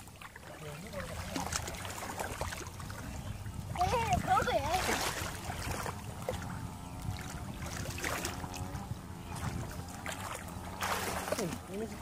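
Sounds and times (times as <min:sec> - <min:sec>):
muddy water sloshing and splashing: 0:00.0 - 0:12.0
wind rumble on microphone: 0:00.8 - 0:12.0.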